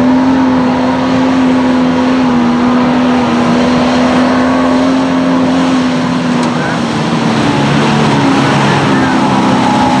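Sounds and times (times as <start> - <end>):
engine at high revs: 0.0 - 10.0.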